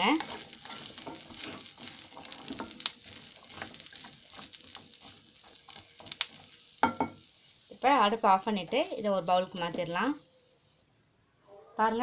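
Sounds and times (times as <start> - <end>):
spatula stirring chickpeas in pan: 0.0 - 10.6
faint sizzle from pan: 0.0 - 10.9.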